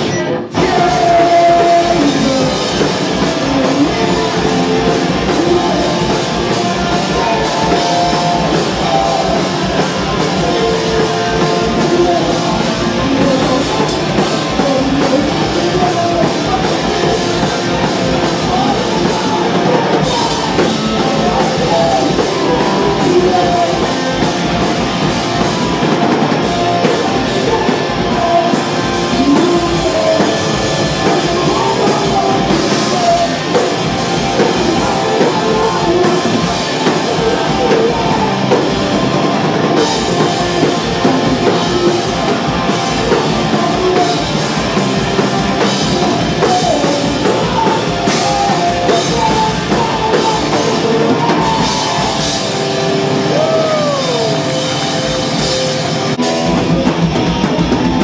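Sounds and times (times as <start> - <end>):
lead vocal singing: 0.0 - 58.0
punk band playing live: 0.0 - 58.0.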